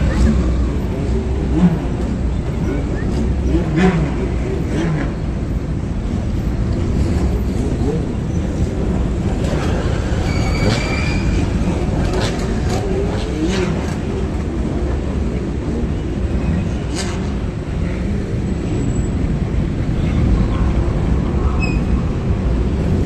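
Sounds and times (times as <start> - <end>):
car and motorbike engines rumbling: 0.0 - 23.0.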